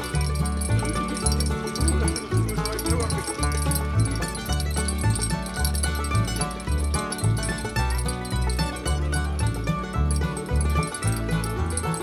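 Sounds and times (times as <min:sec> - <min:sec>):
country music with plucked strings: 0:00.0 - 0:12.0.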